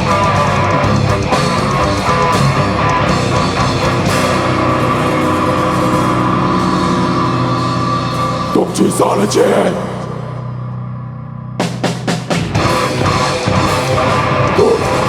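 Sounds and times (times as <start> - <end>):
bass: 0.0 - 15.0
distorted electric guitars: 0.0 - 15.0
drums: 0.0 - 15.0.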